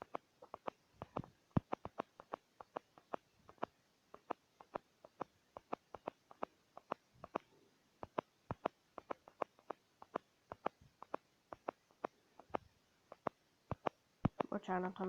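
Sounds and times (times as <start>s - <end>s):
quick irregular tapping: 0.0s - 14.6s.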